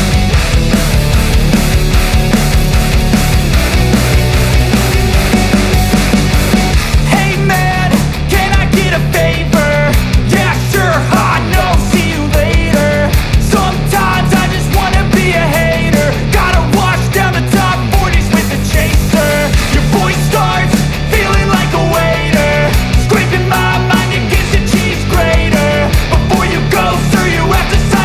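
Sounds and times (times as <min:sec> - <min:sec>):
loud rock music: 0:00.0 - 0:28.0.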